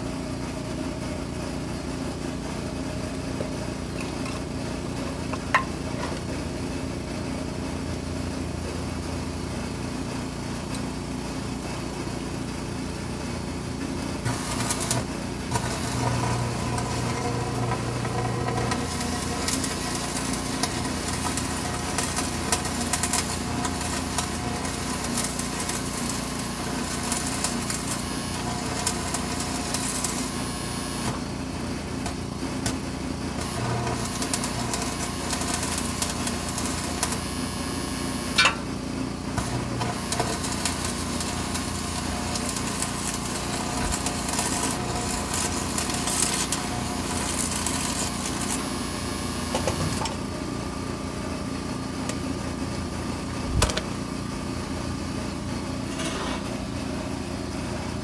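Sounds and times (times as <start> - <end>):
arc welding crackle: 0.4 - 54.2.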